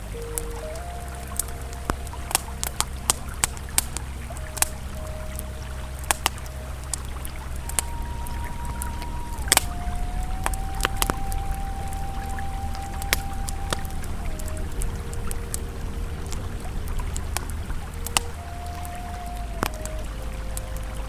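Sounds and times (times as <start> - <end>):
campfire crackling and popping: 0.0 - 21.0
river flowing: 0.0 - 21.0
soft ambient tone: 0.0 - 21.0.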